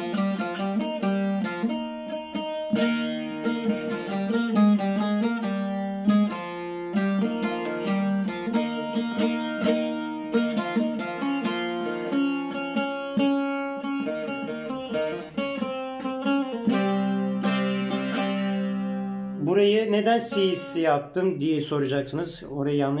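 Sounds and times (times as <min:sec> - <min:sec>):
plucked lute folk melody: 0:00.0 - 0:21.9
open string ringing low: 0:00.0 - 0:22.4.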